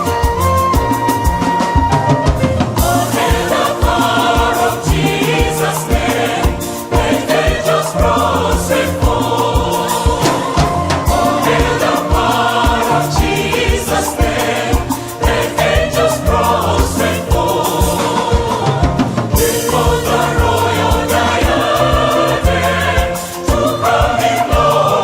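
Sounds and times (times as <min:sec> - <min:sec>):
accompaniment with steady beat: 0:00.0 - 0:25.0
choir singing gospel hymn: 0:02.3 - 0:25.0.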